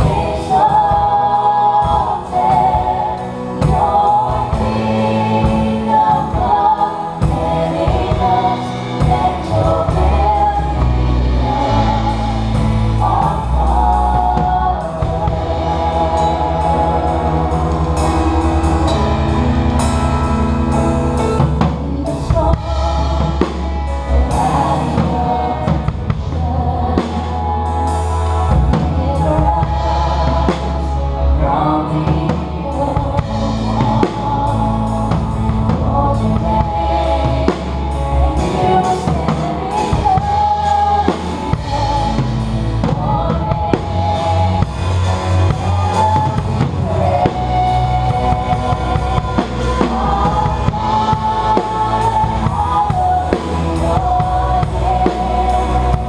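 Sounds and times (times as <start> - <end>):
drum kit playing steady beat: 0.0 - 56.0
people singing: 0.0 - 56.0
sustained low bass notes: 0.0 - 56.0.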